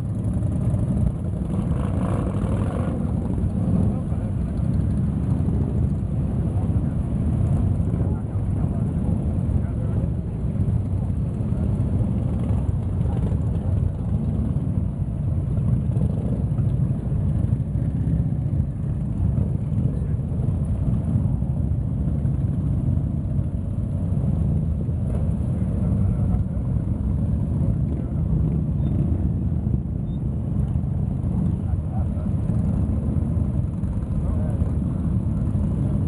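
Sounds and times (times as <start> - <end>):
motorcycle engines droning: 0.0 - 36.0.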